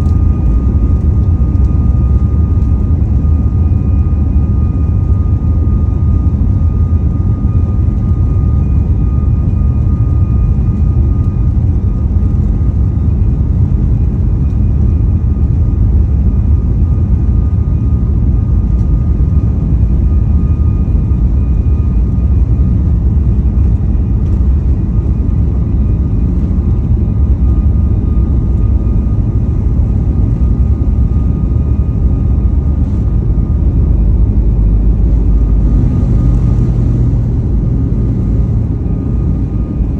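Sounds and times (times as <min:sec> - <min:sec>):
jet engine rumble in cabin: 0:00.0 - 0:39.9
thin steady whine: 0:00.0 - 0:39.9.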